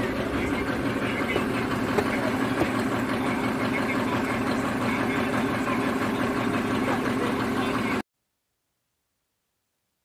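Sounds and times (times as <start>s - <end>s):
van engine idling: 0.0s - 8.0s.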